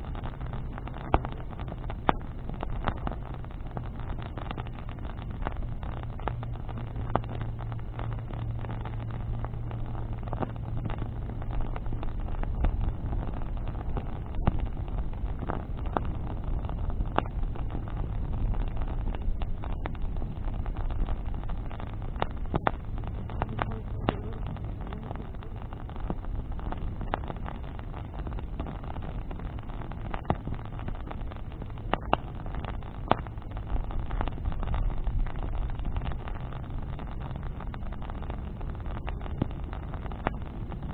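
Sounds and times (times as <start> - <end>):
bonfire crackling and popping: 0.0 - 40.9
steady low rumble: 0.0 - 40.9.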